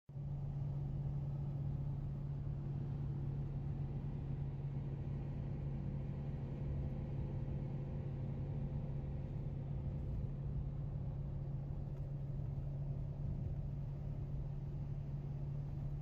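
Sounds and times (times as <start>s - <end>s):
road and engine noise in truck cab: 0.1s - 16.0s.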